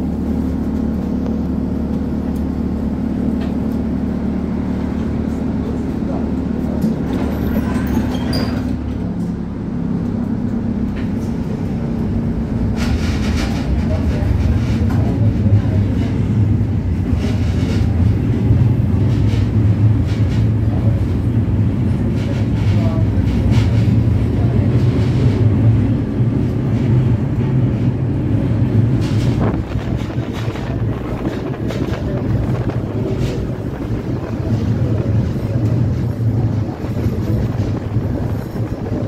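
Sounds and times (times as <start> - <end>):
tram motor and wheel rumble: 0.0 - 39.0.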